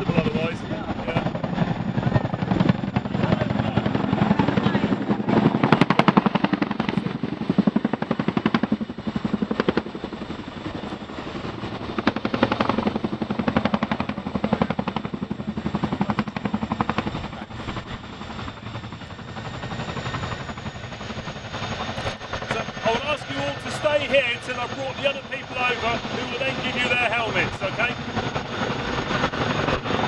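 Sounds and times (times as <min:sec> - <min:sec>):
helicopter rotors beating: 0:00.0 - 0:30.0.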